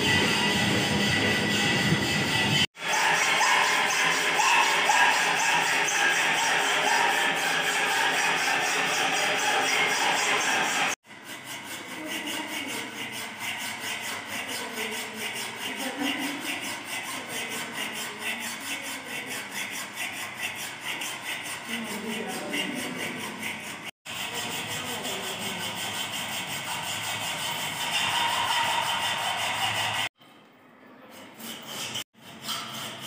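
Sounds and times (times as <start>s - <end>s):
hacksaw cutting steel bar: 2.6s - 30.2s, 31.1s - 33.0s.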